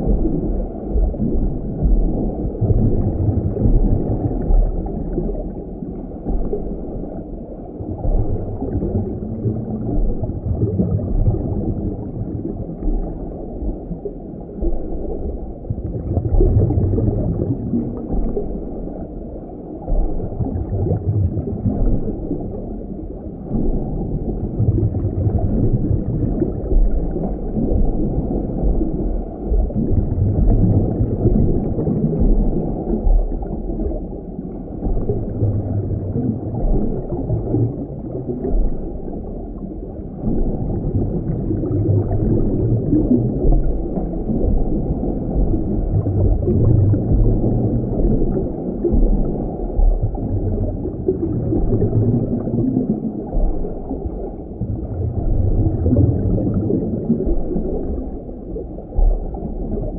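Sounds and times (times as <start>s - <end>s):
underwater water rumble: 0.0s - 59.9s.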